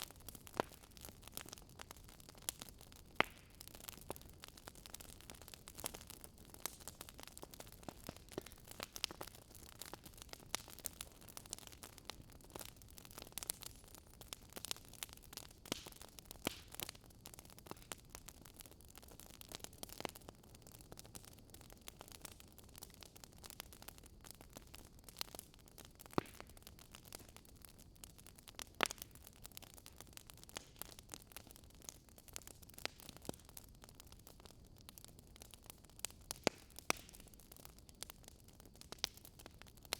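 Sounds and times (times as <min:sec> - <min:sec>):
low steady hiss: 0:00.0 - 0:39.9
wood fire popping and snapping: 0:00.0 - 0:39.9.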